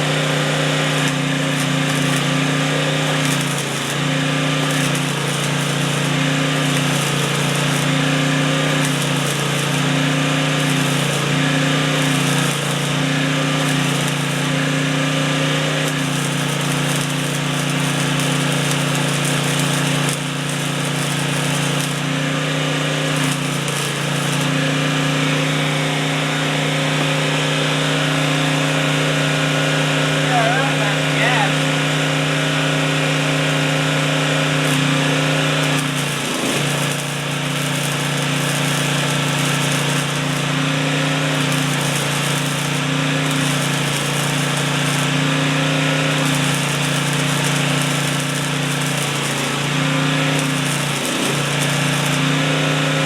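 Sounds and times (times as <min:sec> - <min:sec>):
arc welding crackling buzz: 0:00.0 - 0:53.0.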